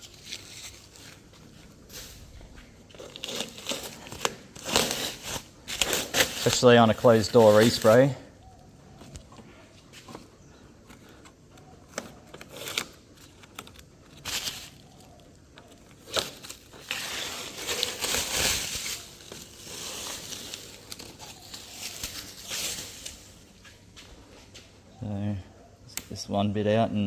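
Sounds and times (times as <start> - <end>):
tape peeling and rustling: 0.0 - 24.6.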